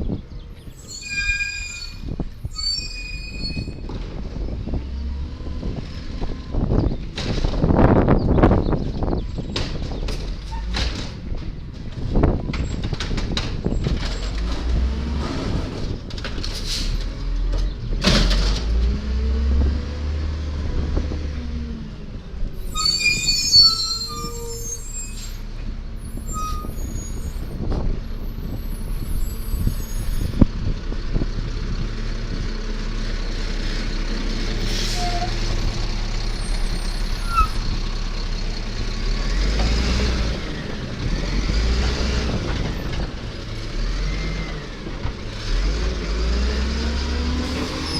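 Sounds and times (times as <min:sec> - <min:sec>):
garbage truck diesel engine: 0:00.0 - 0:47.9.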